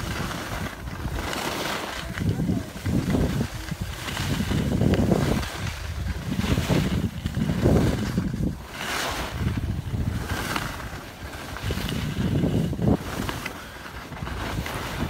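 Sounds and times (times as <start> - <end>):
skis hissing over snow: 0.0 - 15.0
wind buffeting microphone: 0.0 - 15.0.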